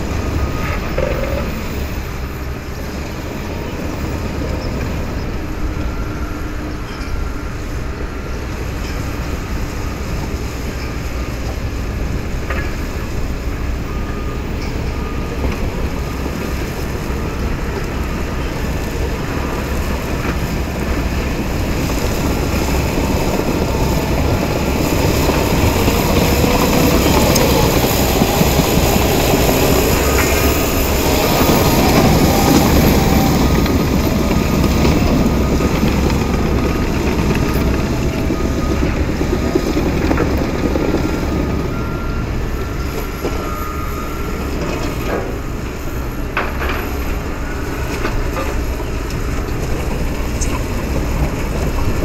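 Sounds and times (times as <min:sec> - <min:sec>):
diesel engine under load: 0:00.0 - 0:52.0
tracks clattering: 0:08.4 - 0:52.0.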